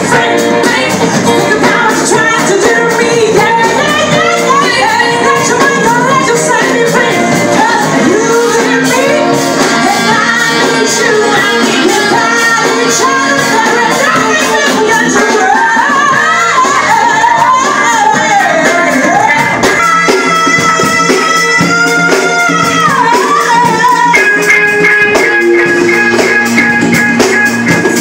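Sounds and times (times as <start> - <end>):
electric guitar: 0.0 - 28.0
woman singing: 0.0 - 28.0.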